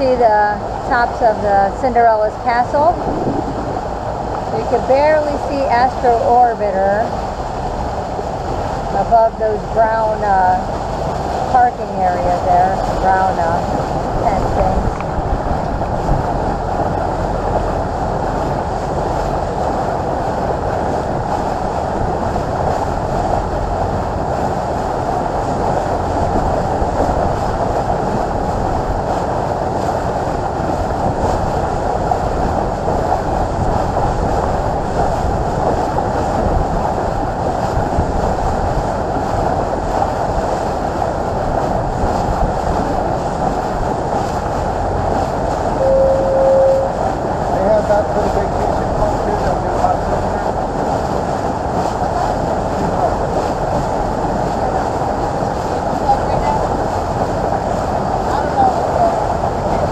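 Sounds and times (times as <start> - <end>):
motor boat engine drone: 0.0 - 59.9
water rushing along hull: 0.0 - 59.9.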